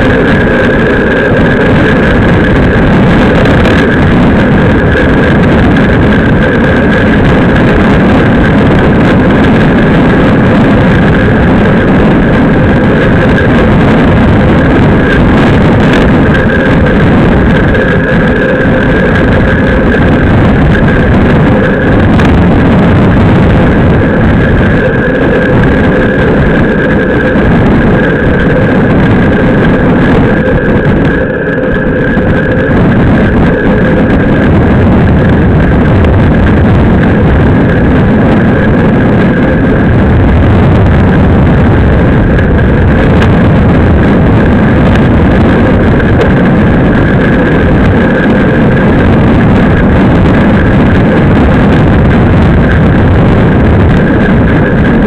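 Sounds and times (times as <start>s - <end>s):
bike tyres rolling on asphalt: 0.0s - 55.0s
wind rush over microphone: 0.0s - 55.0s.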